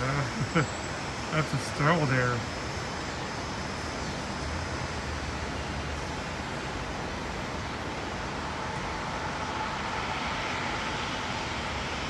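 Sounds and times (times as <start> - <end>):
distant aircraft engines: 0.0 - 12.0
road traffic: 0.0 - 12.0.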